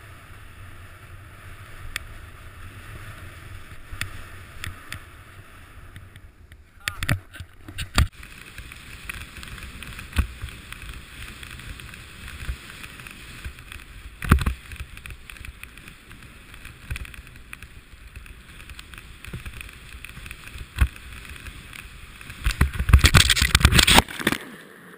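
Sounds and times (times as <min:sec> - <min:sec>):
snowboard sliding over snow: 0:00.0 - 0:24.9.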